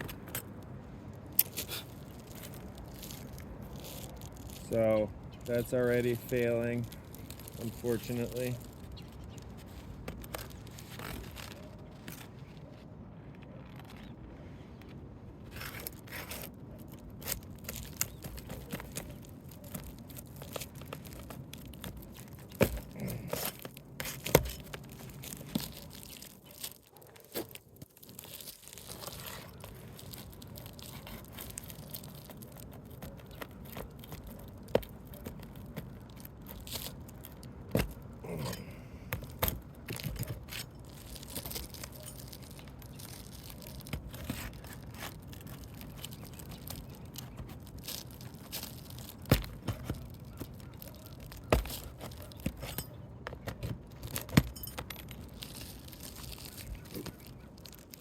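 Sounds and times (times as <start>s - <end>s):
roof shingles tearing and scraping: 0.0s - 14.3s, 15.4s - 58.0s.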